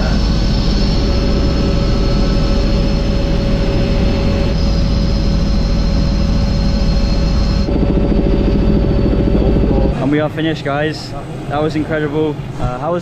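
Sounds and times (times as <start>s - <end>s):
helicopter engine and rotors: 0.0s - 13.0s.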